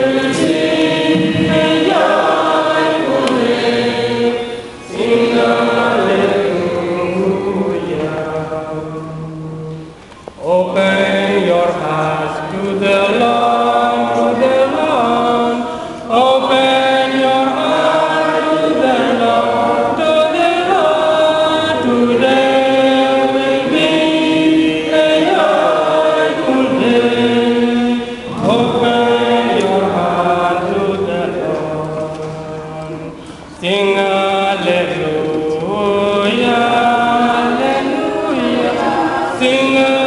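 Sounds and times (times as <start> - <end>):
man singing hymn into microphone: 0.0 - 40.0.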